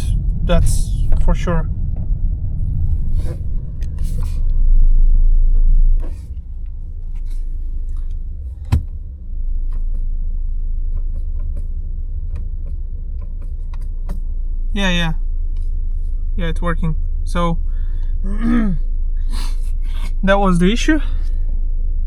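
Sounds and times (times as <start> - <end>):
car driving low rumble: 0.0 - 22.0.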